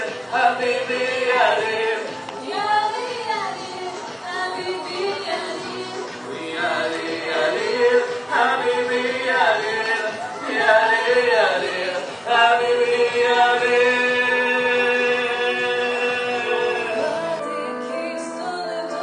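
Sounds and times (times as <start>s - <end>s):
musical accompaniment: 0.0s - 19.0s
voices singing: 0.0s - 19.0s.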